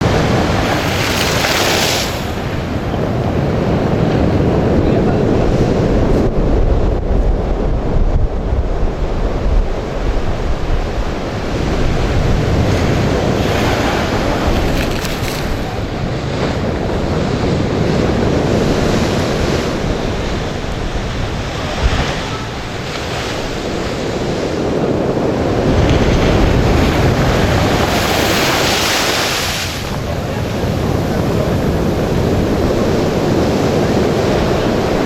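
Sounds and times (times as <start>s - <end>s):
waves breaking: 0.0s - 35.0s
wind buffeting microphone: 0.0s - 35.0s.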